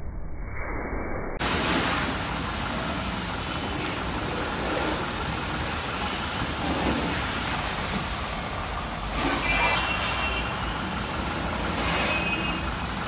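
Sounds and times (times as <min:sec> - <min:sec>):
pressure washer jet hissing: 0:01.4 - 0:13.0.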